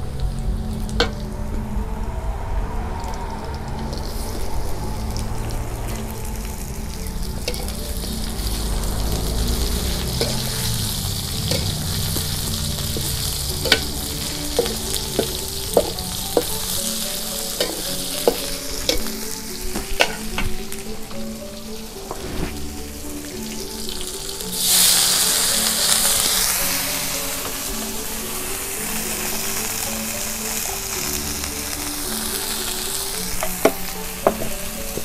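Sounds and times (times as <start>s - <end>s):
tofu sizzling in wok: 3.8s - 35.0s.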